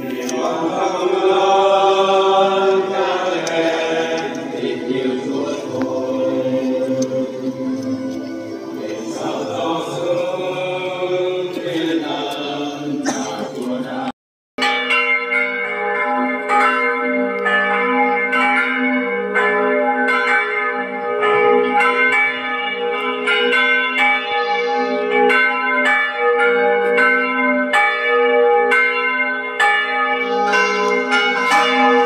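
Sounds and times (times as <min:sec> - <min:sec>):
church bells pealing: 0:00.0 - 0:14.0, 0:14.6 - 0:32.0.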